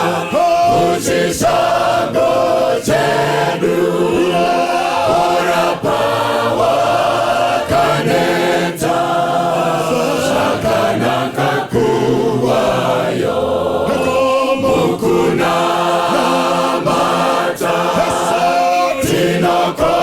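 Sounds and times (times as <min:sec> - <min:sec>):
choir singing a slow hymn: 0:00.0 - 0:20.0.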